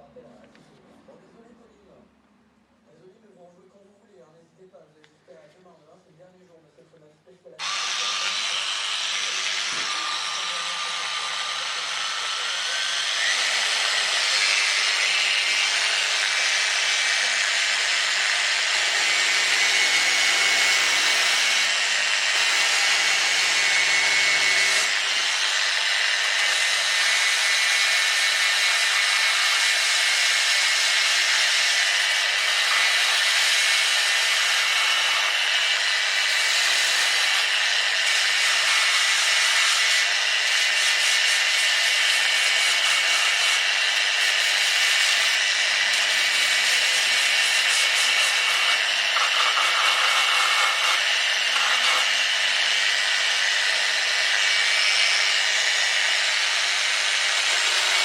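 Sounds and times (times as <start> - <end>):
belt sander whirring: 7.6 - 58.0.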